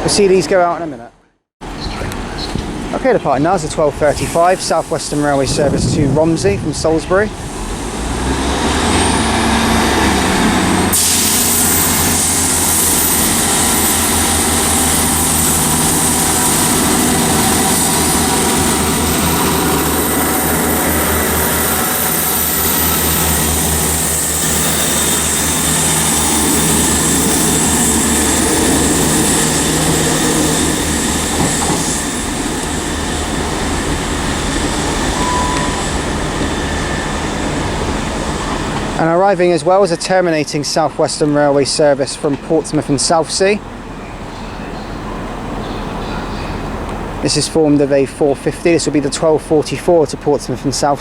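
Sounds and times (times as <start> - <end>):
diesel train engine running: 1.6 - 51.0
rail and wheel noise: 1.6 - 51.0.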